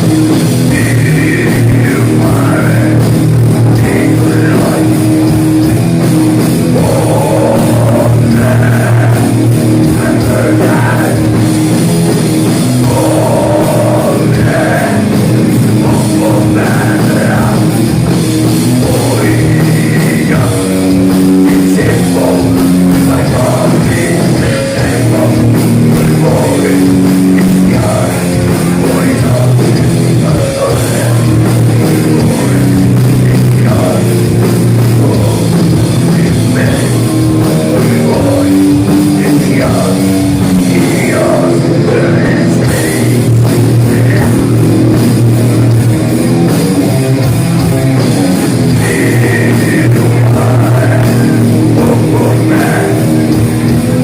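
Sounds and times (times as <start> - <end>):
distorted electric guitars: 0.0 - 54.0
drum kit: 0.0 - 54.0
person singing: 0.6 - 54.0.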